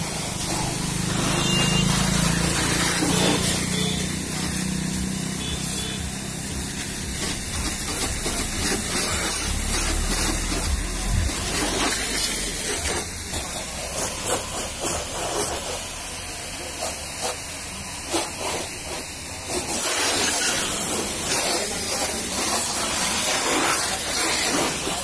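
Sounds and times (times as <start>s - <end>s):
pressure washer spraying water: 0.0s - 25.0s.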